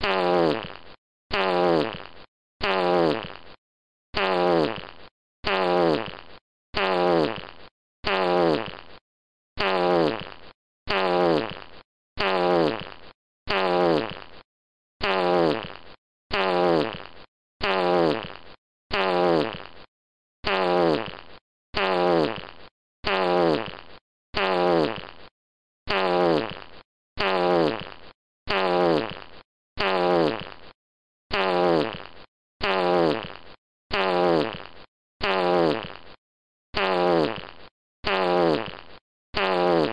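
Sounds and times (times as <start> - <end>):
fart sound effect: 0.0 - 9.0, 9.6 - 14.4, 15.0 - 25.3, 25.9 - 36.2, 36.8 - 39.9.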